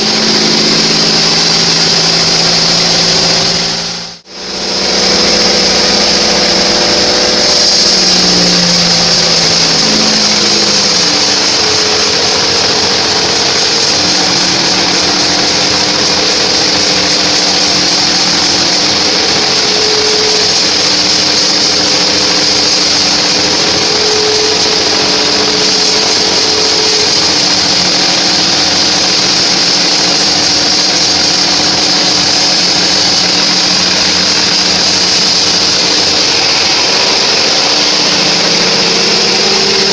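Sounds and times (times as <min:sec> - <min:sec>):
band saw cutting log hiss: 0:00.0 - 0:39.9.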